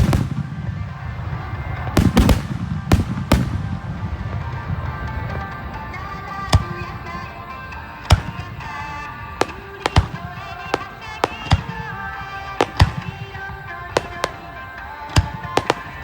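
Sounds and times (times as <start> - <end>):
firework bangs: 0.0 - 16.0.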